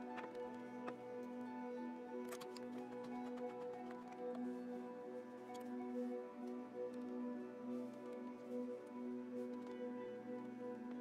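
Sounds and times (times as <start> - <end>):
music of held notes: 0.0 - 11.0.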